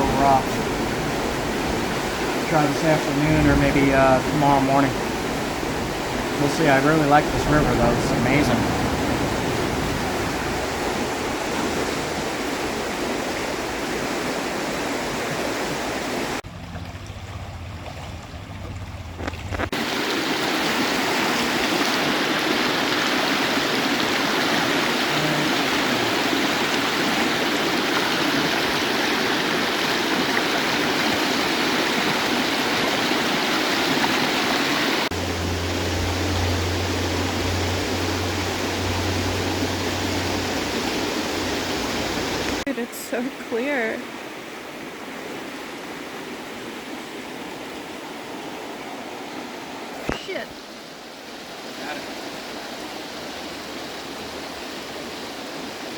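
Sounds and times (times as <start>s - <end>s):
river rushing: 0.0s - 18.2s, 19.2s - 55.9s.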